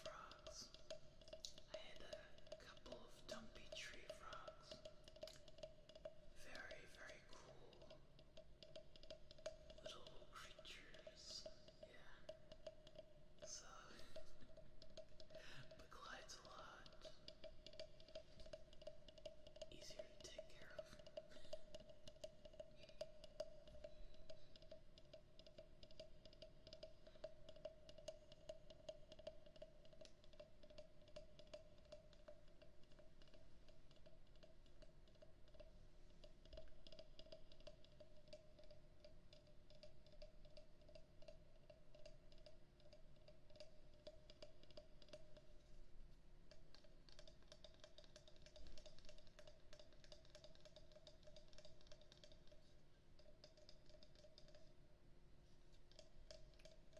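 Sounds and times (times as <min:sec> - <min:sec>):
faint steady hum: 0:00.0 - 0:56.9
wooden frog clicking and tapping: 0:00.0 - 0:56.9.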